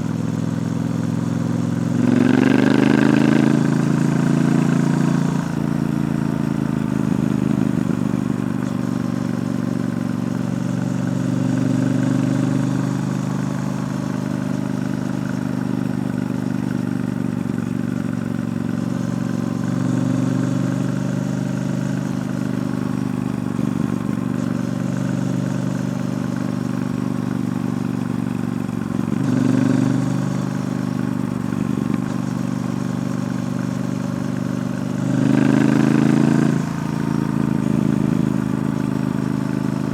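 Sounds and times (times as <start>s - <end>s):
motorcycle engine revving while riding: 0.0s - 39.9s.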